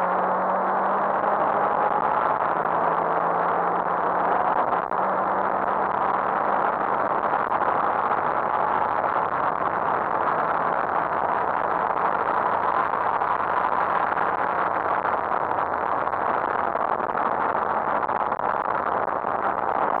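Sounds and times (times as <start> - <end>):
car driving at speed: 0.0 - 20.0.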